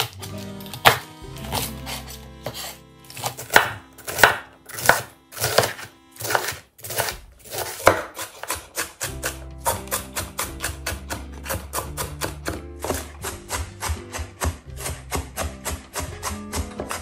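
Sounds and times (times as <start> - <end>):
knife chopping on wooden board: 0.0 - 17.0.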